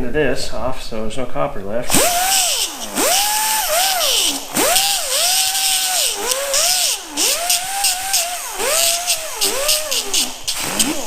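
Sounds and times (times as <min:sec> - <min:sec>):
grinder grinding metal: 0:01.9 - 0:11.0.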